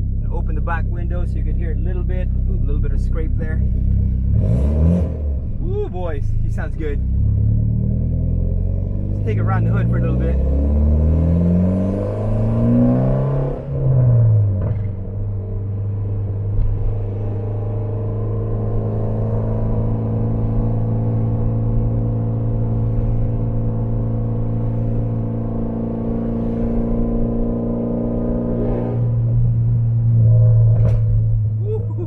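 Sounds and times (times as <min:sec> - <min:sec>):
car engine driving: 0:00.0 - 0:32.0.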